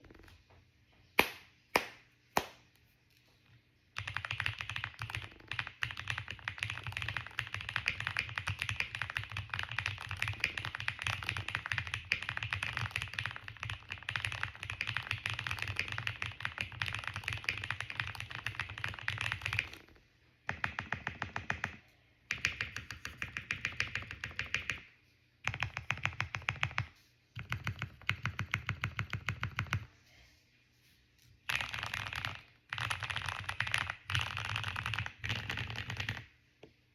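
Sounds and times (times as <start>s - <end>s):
mechanical keyboard typing: 4.0s - 19.9s, 20.5s - 29.9s, 31.5s - 36.3s.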